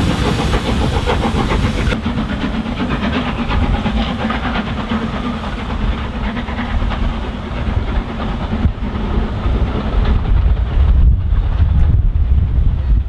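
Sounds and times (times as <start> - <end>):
steam locomotive exhaust beating: 0.0 - 13.0.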